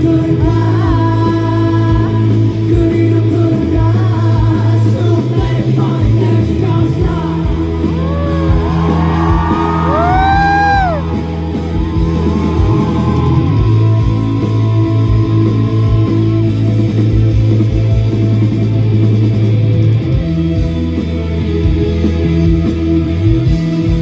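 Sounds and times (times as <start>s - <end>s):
live rock band music: 0.0s - 24.0s.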